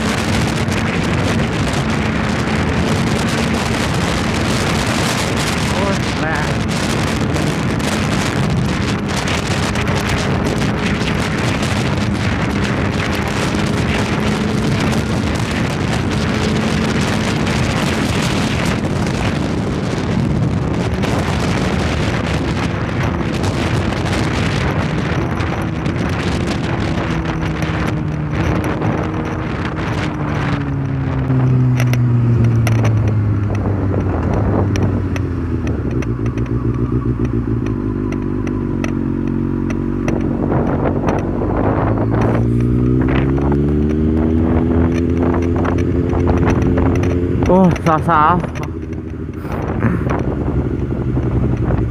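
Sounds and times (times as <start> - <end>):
motorcycle engine running: 0.0 - 51.9
wind rush on microphone: 0.0 - 51.9.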